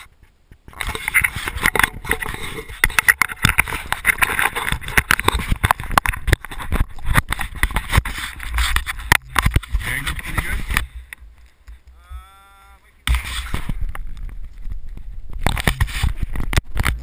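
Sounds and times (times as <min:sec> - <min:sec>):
camera handling knocks and scrapes: 0:00.6 - 0:12.0, 0:13.1 - 0:14.2, 0:15.3 - 0:17.0.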